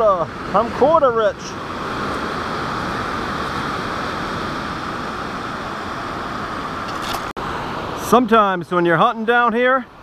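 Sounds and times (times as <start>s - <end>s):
ocean surf washing on beach: 0.0s - 10.0s.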